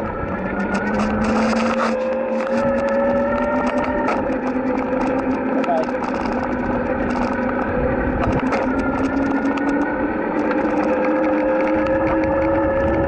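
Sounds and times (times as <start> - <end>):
electric bike motor whining: 0.0 - 13.0
road rumble: 0.0 - 13.0
wind: 0.0 - 13.0
camera mount rattling: 0.5 - 12.4.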